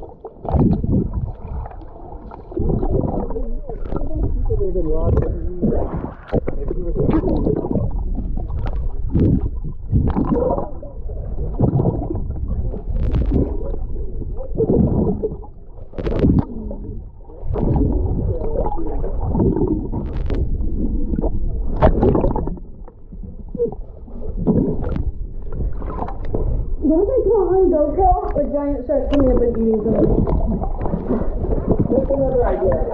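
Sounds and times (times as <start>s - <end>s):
underwater gurgling and sloshing: 0.0s - 32.9s.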